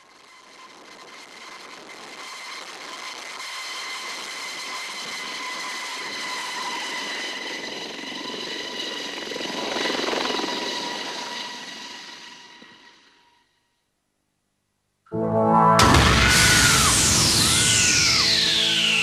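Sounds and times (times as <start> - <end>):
helicopter rotor rush: 0.1 - 13.1, 15.8 - 19.0
helicopter turbine whine: 0.1 - 13.2, 15.8 - 19.0.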